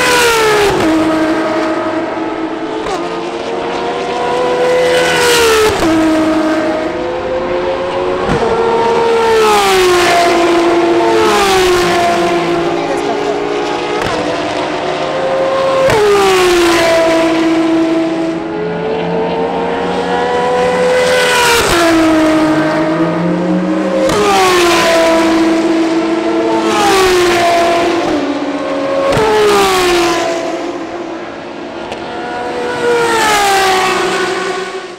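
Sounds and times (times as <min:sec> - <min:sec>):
race cars passing at speed: 0:00.0 - 0:34.9.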